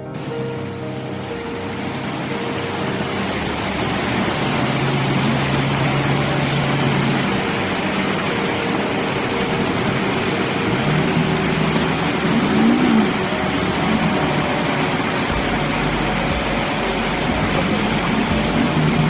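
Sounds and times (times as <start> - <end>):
low hum: 0.0 - 19.0
vehicle road and engine noise: 0.1 - 19.0.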